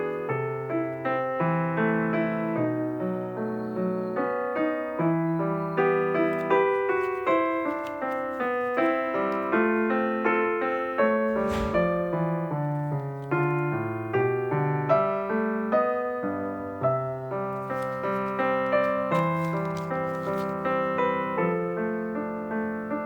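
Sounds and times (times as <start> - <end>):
piano minuet: 0.0 - 23.0.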